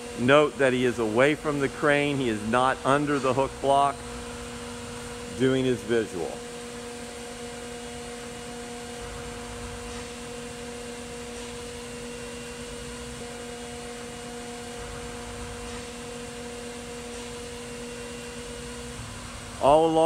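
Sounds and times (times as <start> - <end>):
electric motors humming: 0.0 - 20.0.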